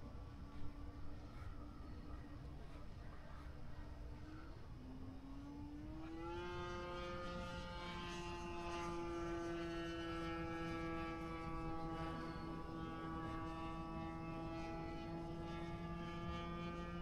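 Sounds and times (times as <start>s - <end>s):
model plane propeller droning: 0.0s - 17.0s.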